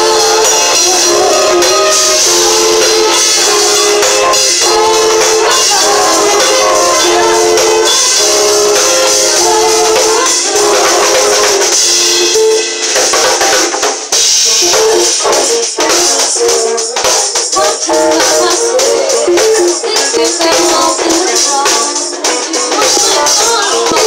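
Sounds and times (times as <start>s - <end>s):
drum kit with cymbals: 0.0s - 24.0s
live band playing: 0.0s - 24.0s.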